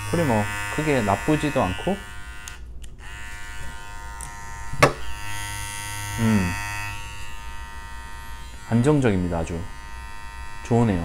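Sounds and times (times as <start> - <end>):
hair clipper buzzing: 0.0 - 11.0.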